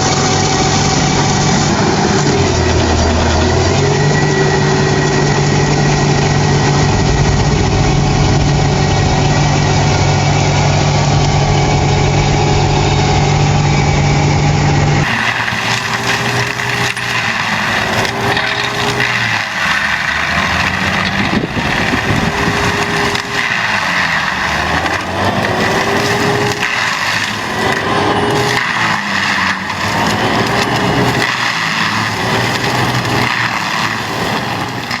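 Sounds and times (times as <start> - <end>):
engine revving up and down: 0.0 - 35.0
tractor engine running: 0.0 - 35.0.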